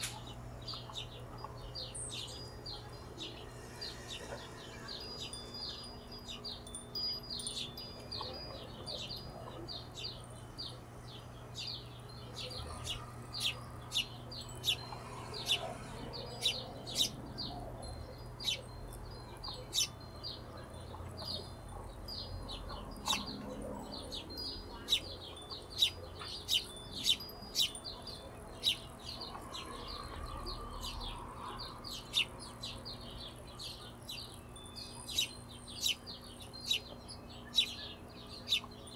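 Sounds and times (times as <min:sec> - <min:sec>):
hummingbirds chirping: 0:00.0 - 0:38.9.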